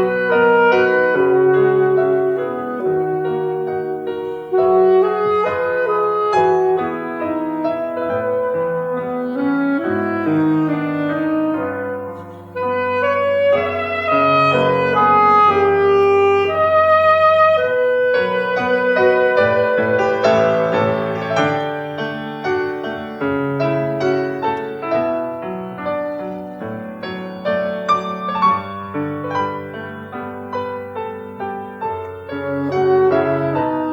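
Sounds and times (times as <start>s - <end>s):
piano accompaniment: 0.0s - 33.9s.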